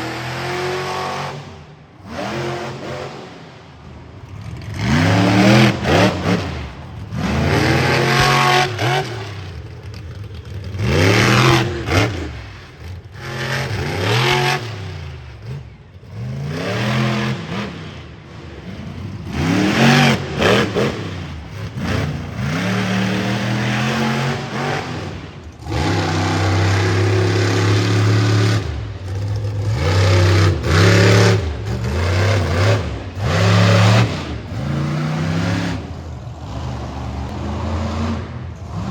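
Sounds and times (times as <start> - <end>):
monster truck engines revving: 0.0 - 38.9.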